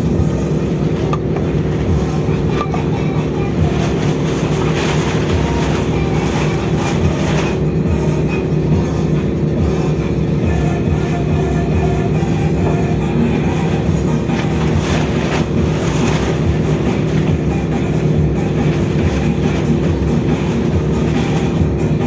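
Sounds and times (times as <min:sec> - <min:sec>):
low mechanical rumble and hum: 0:00.0 - 0:22.0.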